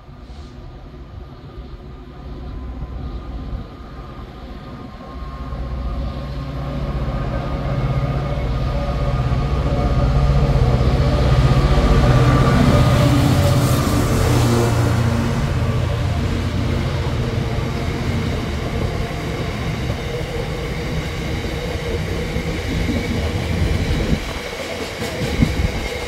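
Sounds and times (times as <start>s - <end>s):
diesel train engine drone: 0.0s - 26.0s
train wheel noise: 0.1s - 26.0s.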